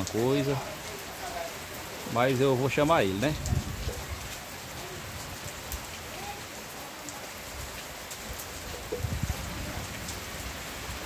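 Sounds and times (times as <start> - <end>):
steady rain falling: 0.0 - 11.0
ticks of raindrops: 0.0 - 11.0.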